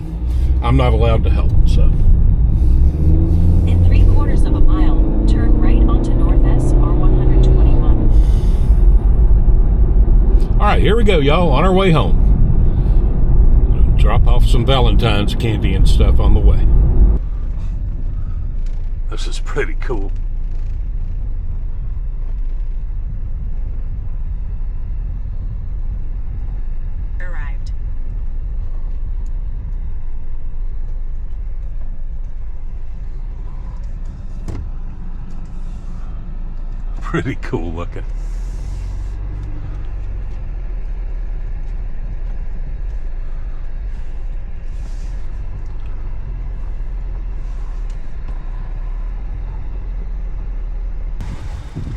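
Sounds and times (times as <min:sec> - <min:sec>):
road and engine rumble in car: 0:00.0 - 0:51.9.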